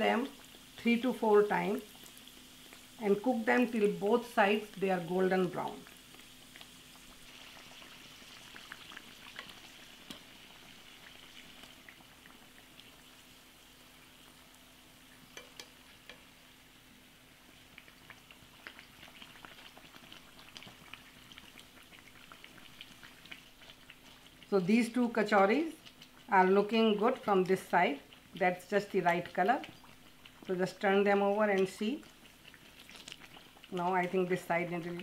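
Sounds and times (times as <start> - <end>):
food deep-frying in oil: 0.0 - 35.0.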